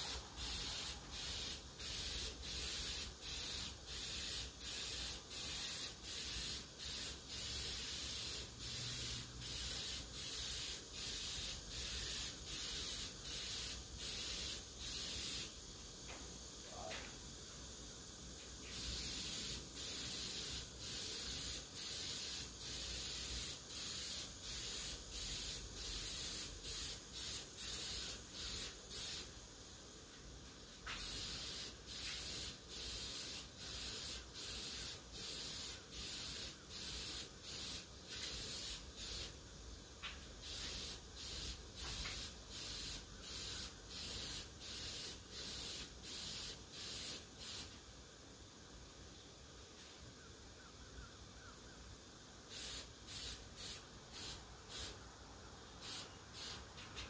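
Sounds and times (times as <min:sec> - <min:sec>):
spray paint bursts: 0:00.0 - 0:15.6, 0:18.6 - 0:29.4, 0:30.7 - 0:39.4, 0:40.0 - 0:47.8, 0:52.4 - 0:55.0, 0:55.8 - 0:57.0.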